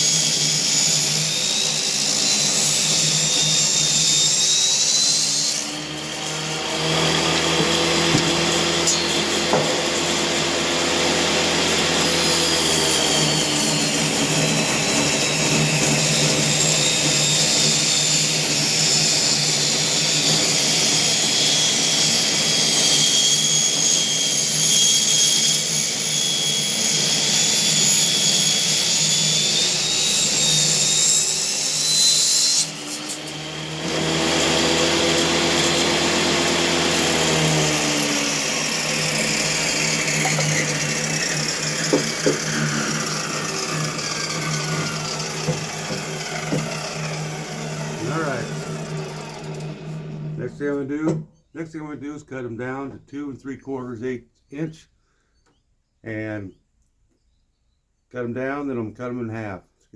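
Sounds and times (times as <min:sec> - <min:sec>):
table saw cutting wood: 0:00.0 - 0:51.2.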